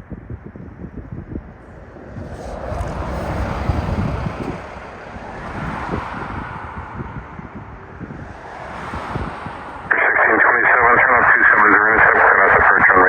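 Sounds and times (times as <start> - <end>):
wind buffeting the microphone: 0.0 - 12.9
jet engines rumbling: 0.4 - 13.0.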